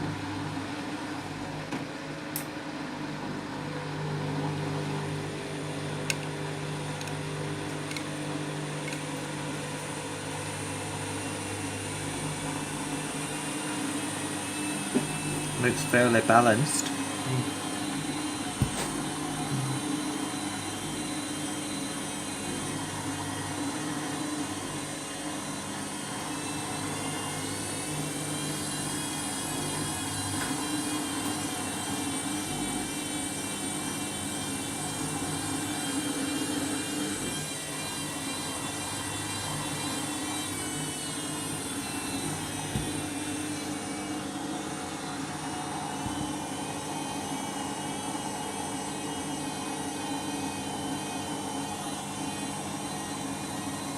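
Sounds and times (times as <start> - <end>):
washing machine motor whine: 0.0 - 53.9.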